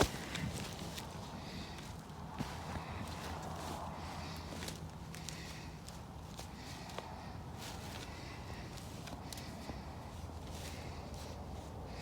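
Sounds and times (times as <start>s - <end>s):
rustling through dry brush: 0.0s - 12.0s.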